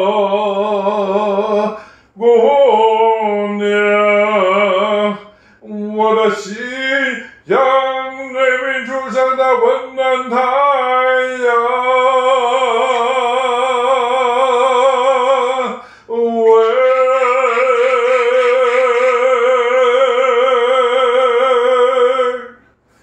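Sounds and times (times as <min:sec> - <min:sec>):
man singing unaccompanied: 0:00.0 - 0:22.6.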